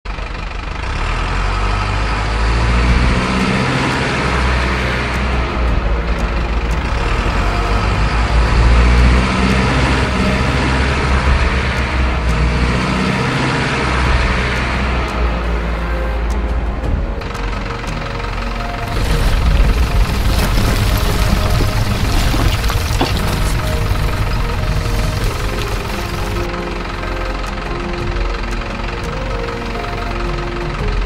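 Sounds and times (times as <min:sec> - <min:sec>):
truck engine rumbling: 0:00.1 - 0:31.0.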